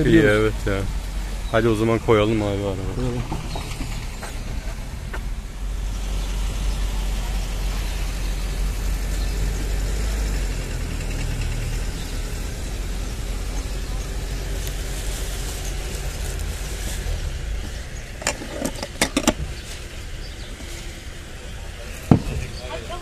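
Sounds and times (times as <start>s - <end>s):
car engine running: 0.0s - 23.0s
road rumble: 0.0s - 23.0s.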